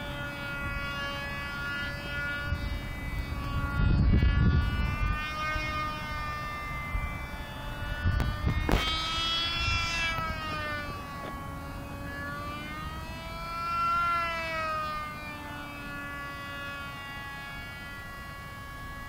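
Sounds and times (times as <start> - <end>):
model plane engine whine: 0.0 - 19.0.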